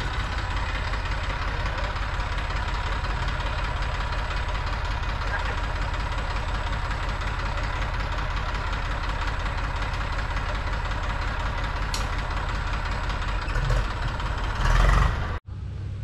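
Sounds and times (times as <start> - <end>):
engine chugging: 0.0 - 16.0.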